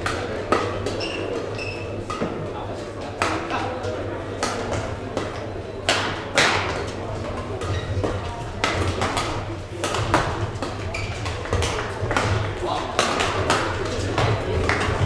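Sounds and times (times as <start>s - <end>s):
murmur of voices: 0.0s - 15.0s
rackets hitting shuttlecock: 0.0s - 15.0s.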